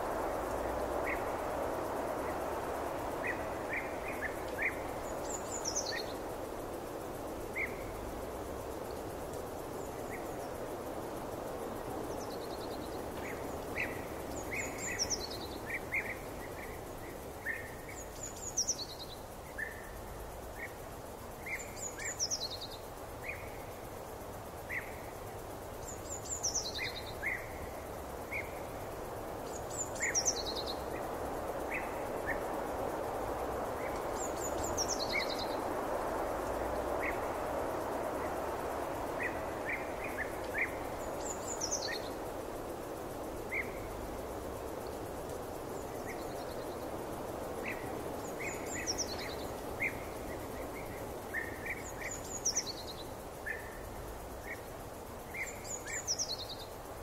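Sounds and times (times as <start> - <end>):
songbird song phrase: 0.0 - 57.0.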